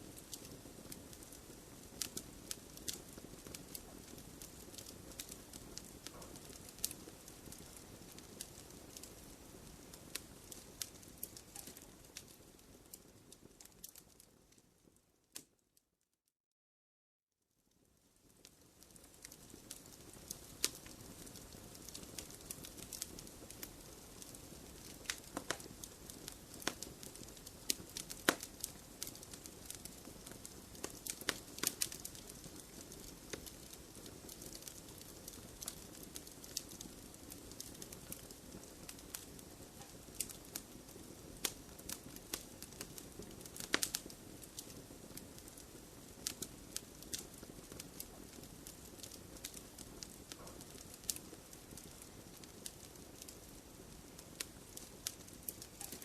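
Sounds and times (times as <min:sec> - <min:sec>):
wood fire crackling: 0:00.0 - 0:15.6, 0:17.7 - 0:56.0.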